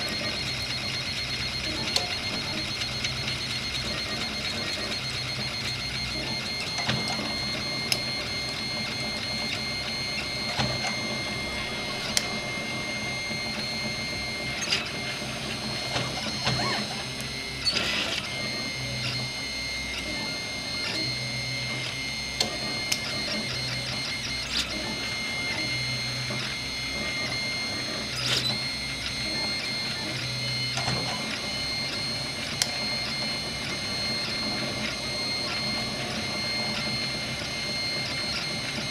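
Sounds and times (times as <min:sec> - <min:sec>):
stepper motors whining: 0:00.0 - 0:38.9.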